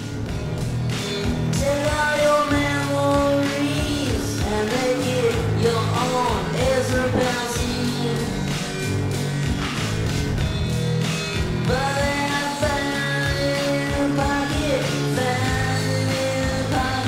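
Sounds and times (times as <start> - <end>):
rock music with bending guitar: 0.0 - 17.0.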